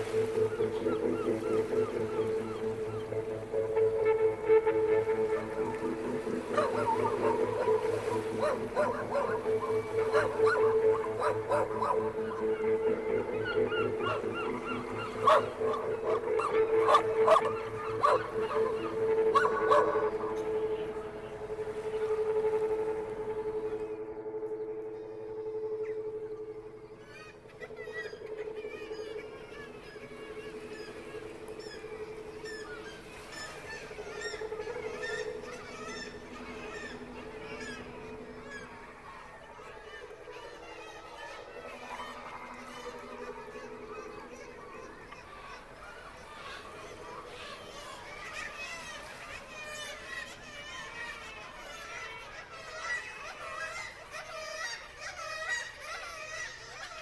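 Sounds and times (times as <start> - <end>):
birds chirping and calling: 0.0 - 21.0, 23.6 - 57.0.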